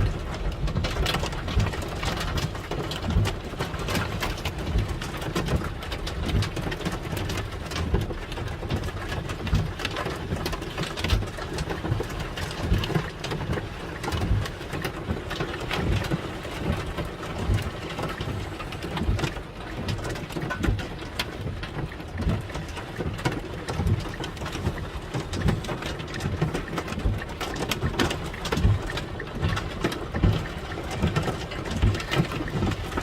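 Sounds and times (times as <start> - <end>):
rain and hail on a vehicle: 0.0 - 33.0.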